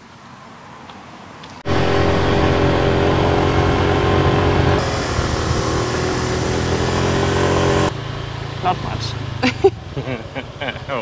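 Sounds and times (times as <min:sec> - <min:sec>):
road and air noise: 0:00.0 - 0:11.0
vehicle engine running: 0:01.6 - 0:11.0.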